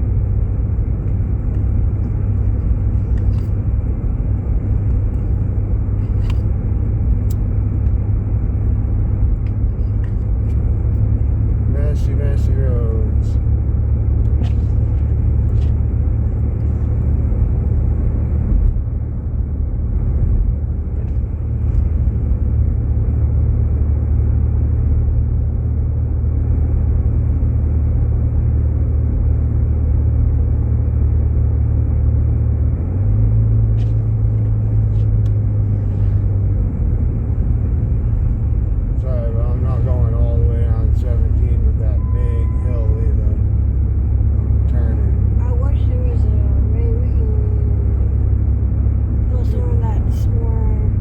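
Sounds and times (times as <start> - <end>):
car engine drone: 0.0 - 51.0.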